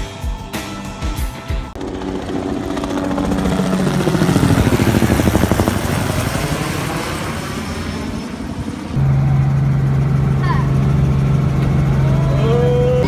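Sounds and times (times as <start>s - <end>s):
helicopter cabin drone: 0.0s - 13.0s
helicopter rotor beating: 0.2s - 13.0s.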